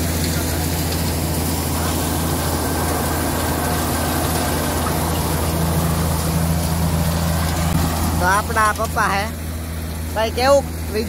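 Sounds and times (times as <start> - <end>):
thresher running: 0.0 - 11.0.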